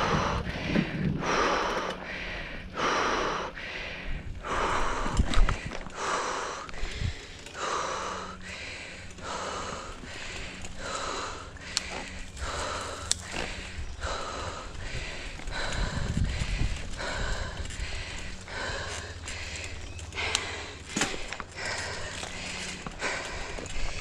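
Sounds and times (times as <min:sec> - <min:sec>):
bike riding rumble: 0:00.0 - 0:24.0
heavy rhythmic breathing: 0:00.0 - 0:24.0.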